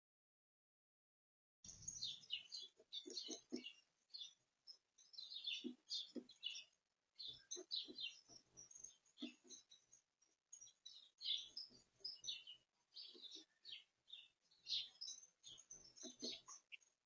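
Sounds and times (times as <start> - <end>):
small birds chirping: 1.7 - 17.0.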